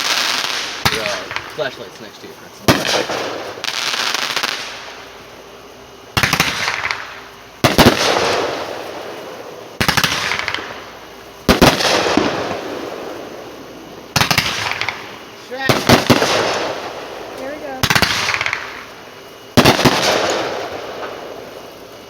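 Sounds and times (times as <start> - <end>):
fireworks crackling pops: 0.0 - 5.5, 6.1 - 22.0.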